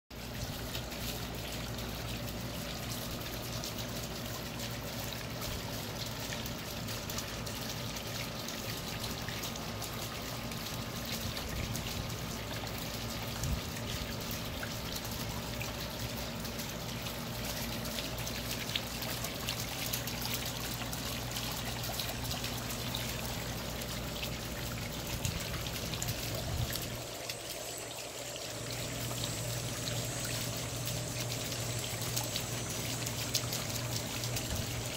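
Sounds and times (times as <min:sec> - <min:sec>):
fountain water trickling: 0:00.1 - 0:34.9.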